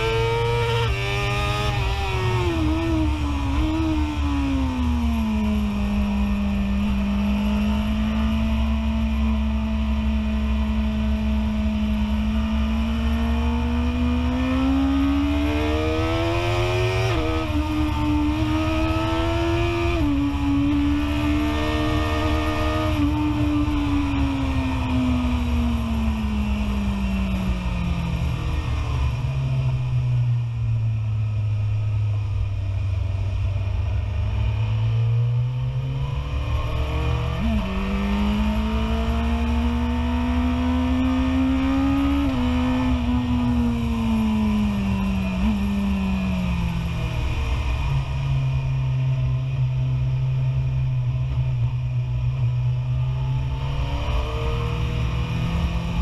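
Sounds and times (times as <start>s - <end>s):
motorcycle engine revving: 0.0s - 29.9s, 33.2s - 56.0s.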